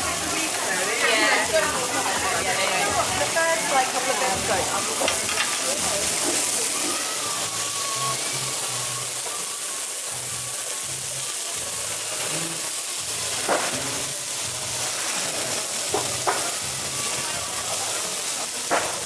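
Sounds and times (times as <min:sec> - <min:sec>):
burger patties sizzling on griddle: 0:00.0 - 0:19.0.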